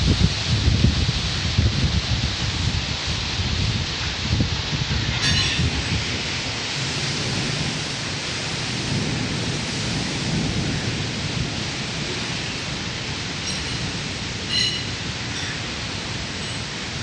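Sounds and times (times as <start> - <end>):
heavy rain falling: 0.0 - 17.0
thunder rumbling: 0.0 - 17.0.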